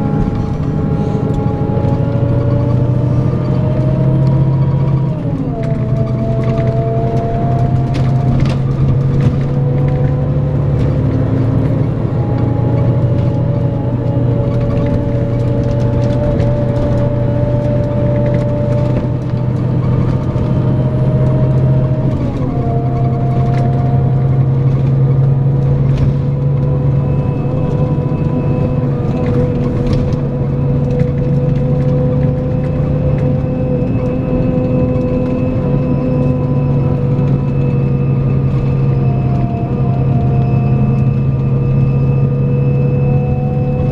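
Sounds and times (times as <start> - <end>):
diesel coach engine humming: 0.0 - 43.9.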